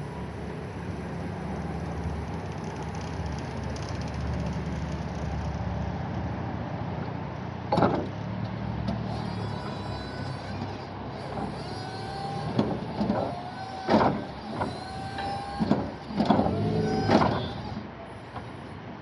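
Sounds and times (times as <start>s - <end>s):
forklift mechanical hum: 0.0s - 19.0s.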